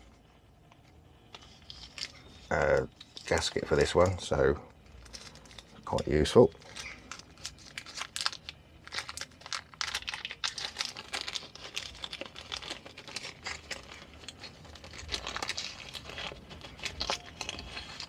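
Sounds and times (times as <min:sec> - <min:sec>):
hands handling small metal parts: 0:00.7 - 0:18.0.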